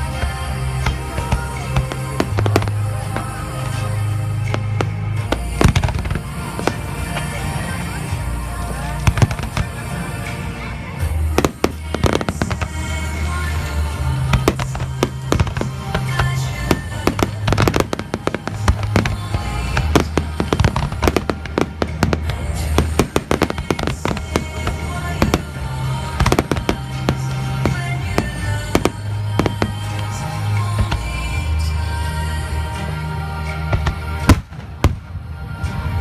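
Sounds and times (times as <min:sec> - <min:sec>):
fireworks bursting and crackling: 0:00.0 - 0:36.0
loud music with bass line: 0:00.0 - 0:36.0.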